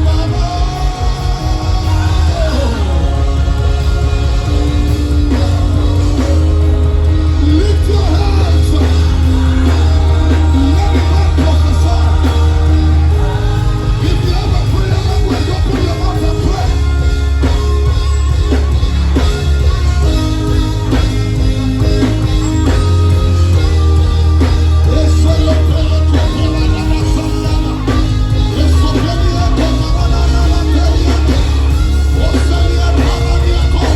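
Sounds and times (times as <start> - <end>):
live band playing: 0.0 - 33.9
person singing: 0.0 - 33.9.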